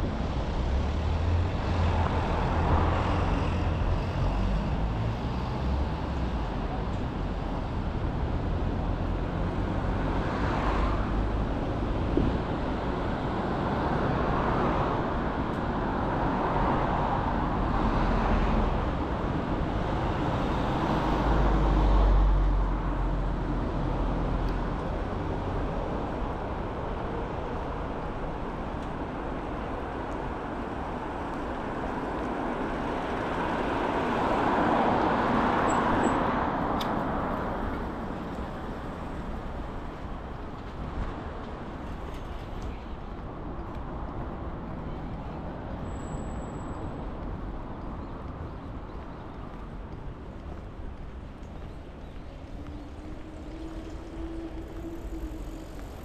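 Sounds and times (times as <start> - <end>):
road noise hum: 0.0 - 56.0
vehicles passing: 0.0 - 56.0.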